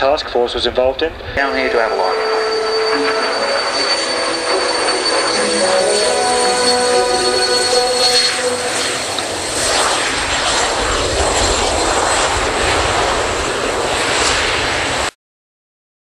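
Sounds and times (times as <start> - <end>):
jet engine roar: 0.0 - 15.2.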